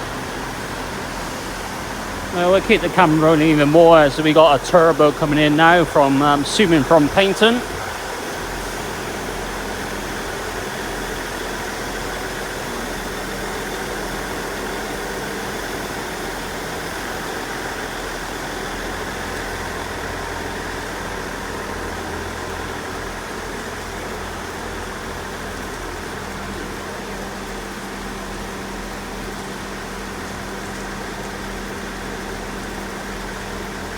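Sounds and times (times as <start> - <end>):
diesel train engines running: 0.0 - 33.9
heavy rain hissing: 0.0 - 33.9.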